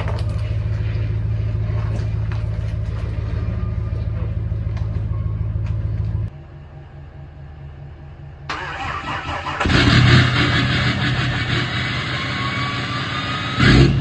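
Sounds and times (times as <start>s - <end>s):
diesel engine starting and idling: 0.0s - 14.0s.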